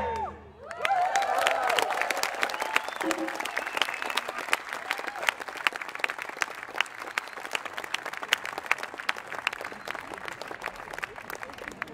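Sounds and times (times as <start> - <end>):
audience applauding: 0.6 - 11.9.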